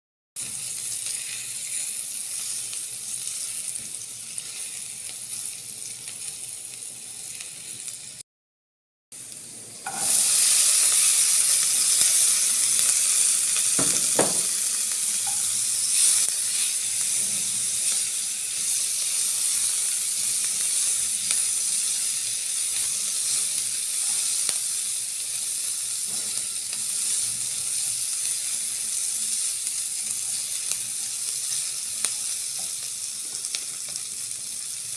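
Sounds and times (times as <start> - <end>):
food sizzling in frying pan: 0.4 - 8.2, 9.2 - 34.9.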